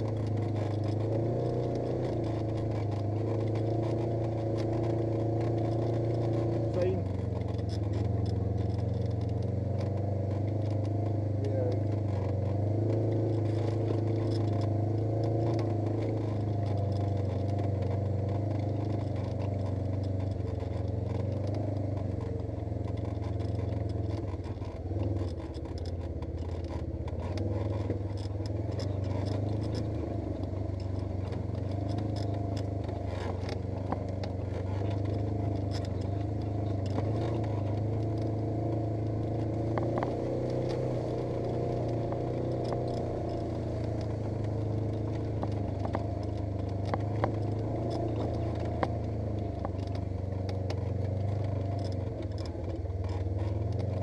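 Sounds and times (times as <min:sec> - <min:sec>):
clicks and rattles: 0:00.0 - 0:54.0
vehicle engine running: 0:00.0 - 0:54.0.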